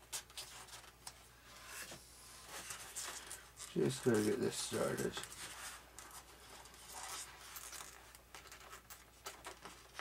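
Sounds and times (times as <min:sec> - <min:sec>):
faint scratching and rubbing: 0:00.3 - 0:09.8.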